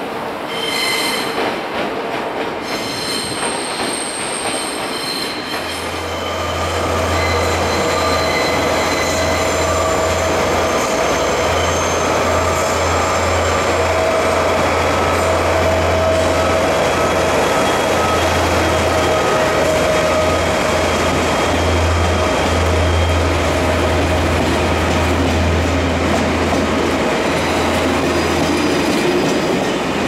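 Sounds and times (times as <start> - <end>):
train rolling noise: 0.0 - 30.0
train wheels squealing on rails: 0.4 - 1.7, 2.5 - 26.0, 27.0 - 30.0.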